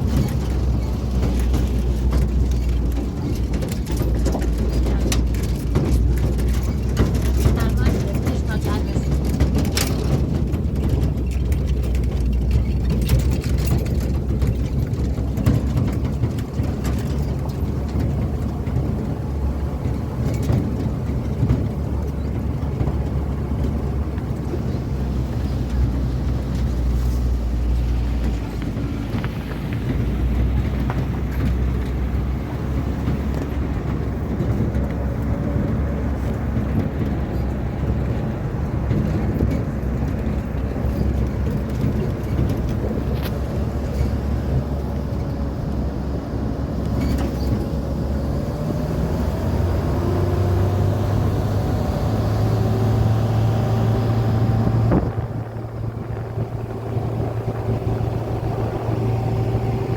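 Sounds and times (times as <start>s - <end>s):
engine and road drone: 0.0s - 59.9s
small rattles and clicks: 0.0s - 59.9s.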